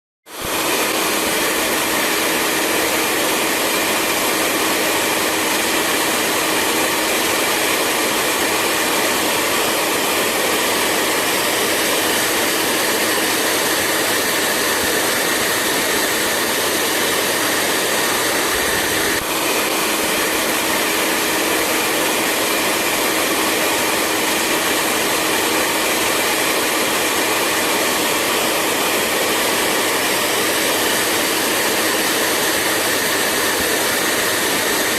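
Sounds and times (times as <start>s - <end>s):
hair dryer running: 0.3s - 34.9s.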